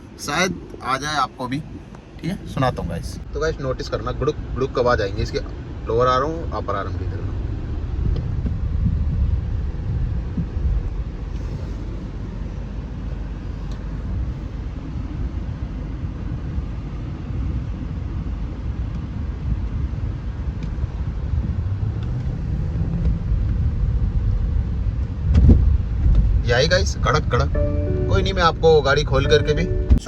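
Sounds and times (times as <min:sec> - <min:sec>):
car road rumble: 0:00.0 - 0:30.0.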